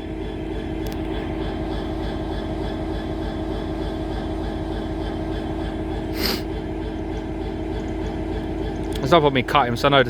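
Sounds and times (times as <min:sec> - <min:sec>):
diesel locomotive engine idling: 0:00.0 - 0:10.0.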